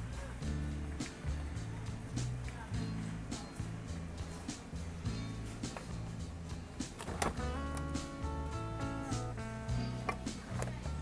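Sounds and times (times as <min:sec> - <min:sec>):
music with sharp percussion beat: 0:00.0 - 0:11.0.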